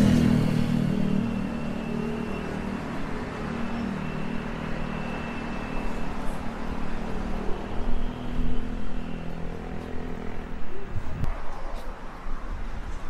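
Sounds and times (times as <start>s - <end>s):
cars passing on road: 0.0s - 13.0s.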